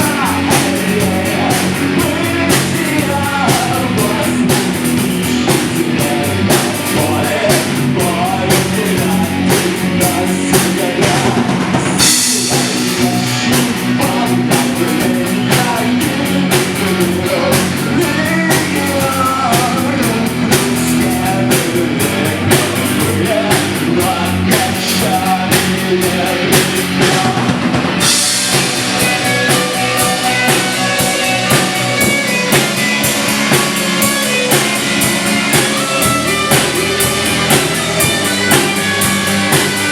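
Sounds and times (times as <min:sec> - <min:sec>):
distorted electric guitars: 0:00.0 - 0:39.9
drum kit with cymbals: 0:00.0 - 0:39.9.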